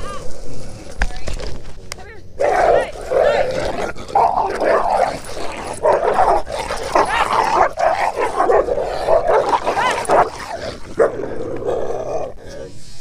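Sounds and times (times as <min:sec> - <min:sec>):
dogs barking and snarling: 0:00.0 - 0:13.0.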